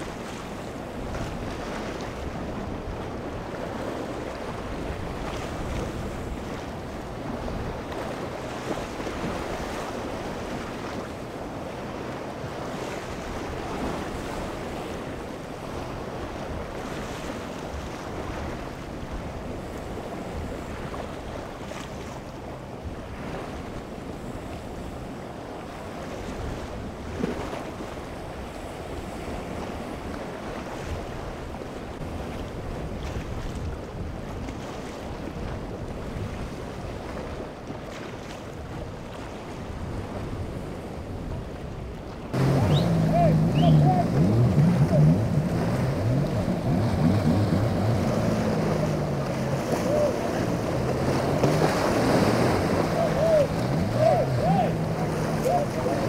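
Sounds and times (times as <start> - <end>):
low rumble of boat engines: 0.0 - 56.0
surf washing against rocks: 0.0 - 56.0.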